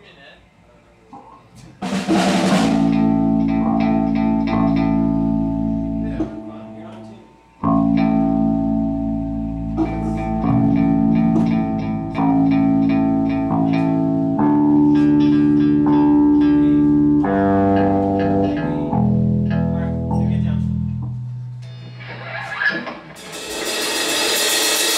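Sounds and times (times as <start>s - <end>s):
bass guitar: 1.8s - 7.0s, 7.6s - 24.1s
strummed guitar chords: 1.8s - 24.9s.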